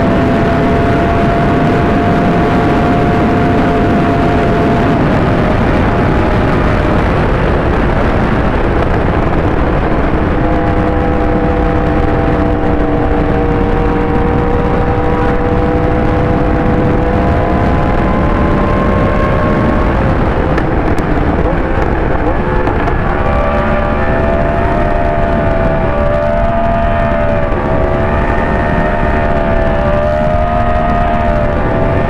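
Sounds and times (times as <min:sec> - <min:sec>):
loud rushing noise: 0:00.0 - 0:32.0
motorcycle engine at steady speed: 0:00.0 - 0:32.0.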